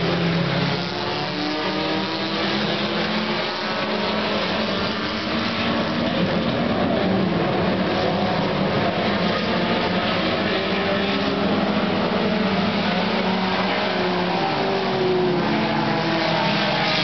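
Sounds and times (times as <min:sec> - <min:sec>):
racing car engines droning: 0:00.0 - 0:17.0.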